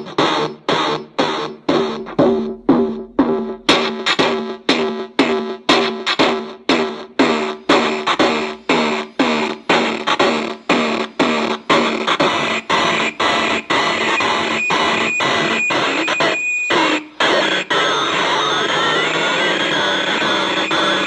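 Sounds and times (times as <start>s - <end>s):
glitchy drum machine noise: 0.0s - 21.0s.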